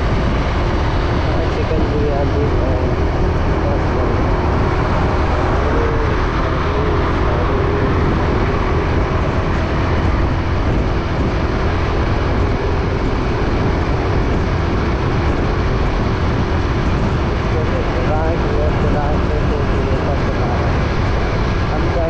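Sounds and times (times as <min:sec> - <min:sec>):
vehicle road and wind noise: 0:00.0 - 0:22.0.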